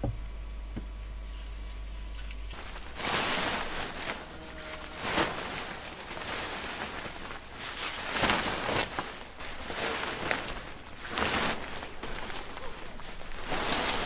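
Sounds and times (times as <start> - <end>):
footsteps rustling and crunching: 0.0 - 14.0.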